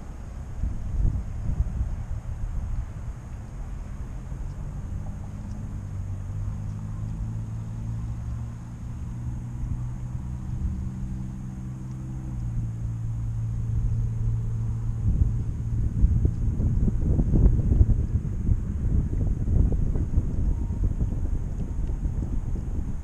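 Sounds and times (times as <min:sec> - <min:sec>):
road traffic engine hum: 0:00.0 - 0:23.0
wind rumble on microphone: 0:00.0 - 0:23.0.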